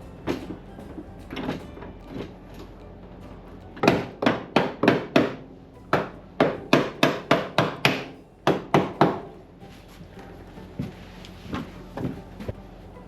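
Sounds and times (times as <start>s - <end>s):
hammer blows: 0.0s - 13.0s.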